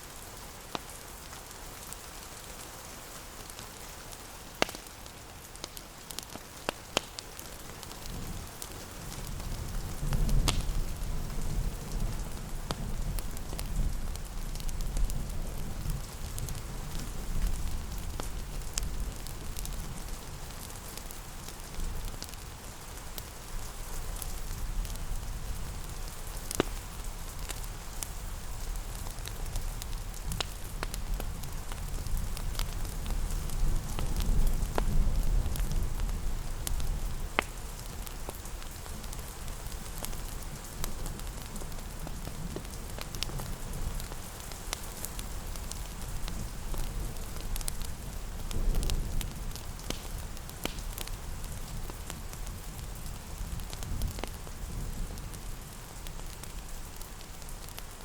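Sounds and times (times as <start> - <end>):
steady rain hiss: 0.0 - 58.0
wood fire crackling: 0.0 - 58.0.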